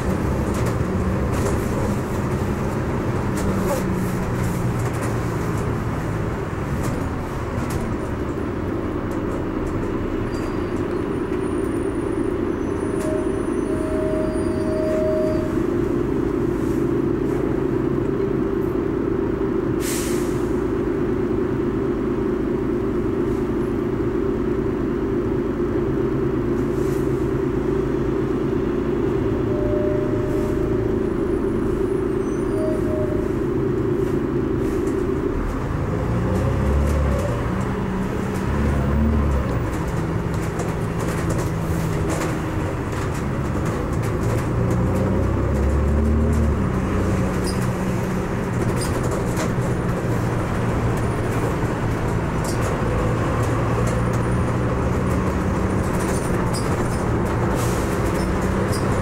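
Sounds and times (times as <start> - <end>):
bus engine: 0.0 - 59.0
road noise: 0.0 - 59.0.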